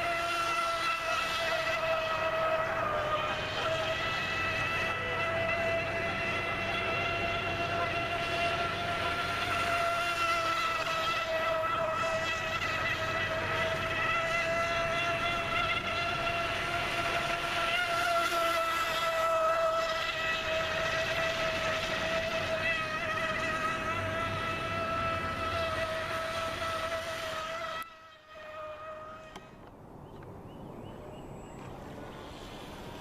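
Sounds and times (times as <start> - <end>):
model boat motor whine: 0.0 - 33.0.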